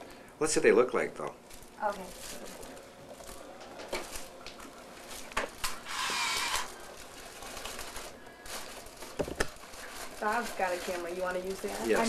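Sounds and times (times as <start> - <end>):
paper rustle: 1.5 - 12.0.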